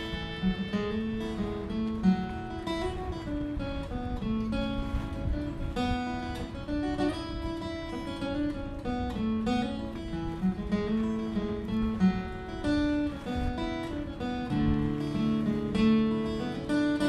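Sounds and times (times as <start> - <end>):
acoustic guitar tune: 0.0 - 17.0.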